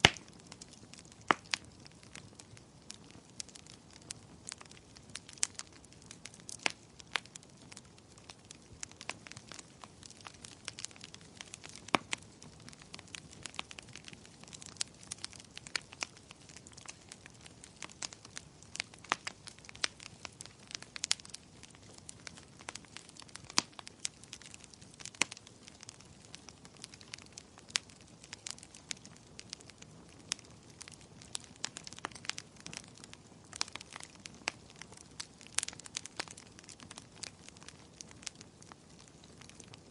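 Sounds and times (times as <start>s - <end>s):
fire soft low hiss: 0.0s - 39.9s
wood fire crackling and popping: 0.0s - 39.9s.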